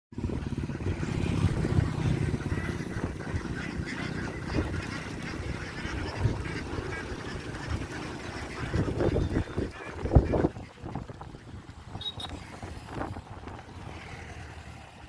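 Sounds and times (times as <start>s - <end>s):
ducks quacking: 0.2s - 13.2s
constant low rumble: 0.2s - 15.0s.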